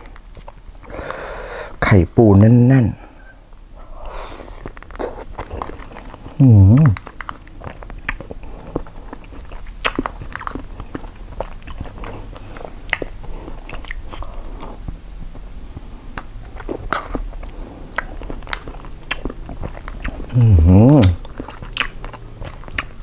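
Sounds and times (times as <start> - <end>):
man chewing food: 0.0 - 1.8, 3.2 - 23.0.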